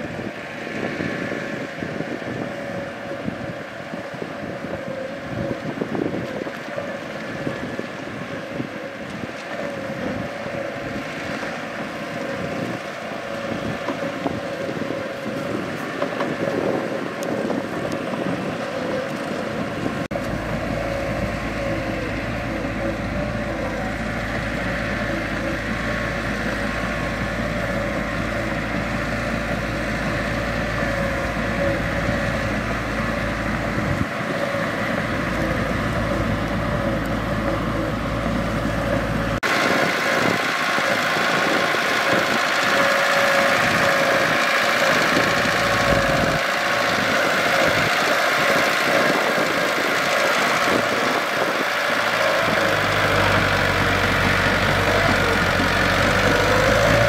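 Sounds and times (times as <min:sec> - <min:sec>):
bulldozer diesel engine running: 0:00.0 - 0:57.0
bulldozer track noise: 0:00.0 - 0:57.0.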